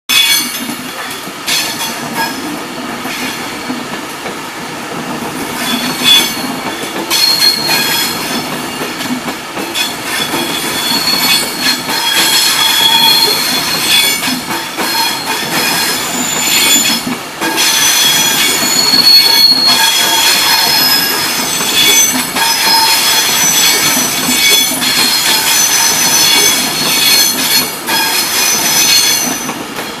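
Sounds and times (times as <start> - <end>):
train rolling rumble: 0.1 - 30.0
wheels squealing on rails: 0.1 - 30.0.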